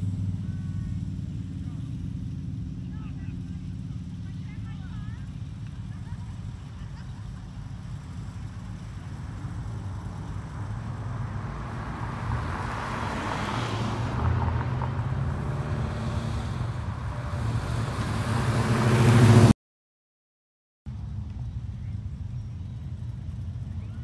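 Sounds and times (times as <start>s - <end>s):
car engines rumbling: 0.0s - 19.6s, 20.9s - 24.0s
road noise: 0.0s - 19.6s, 20.9s - 24.0s.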